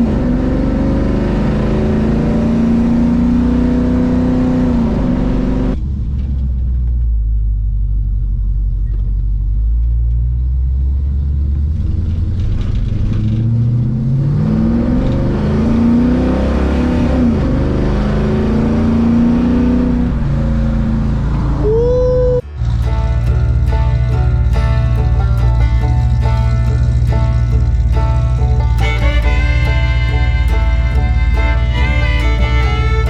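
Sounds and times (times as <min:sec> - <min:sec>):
vee-eight engine revving: 0:00.0 - 0:07.0, 0:08.8 - 0:33.0.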